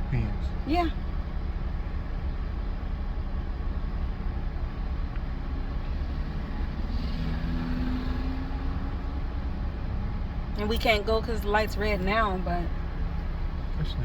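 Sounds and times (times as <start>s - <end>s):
car cabin rumble: 0.0s - 6.9s, 8.2s - 14.0s.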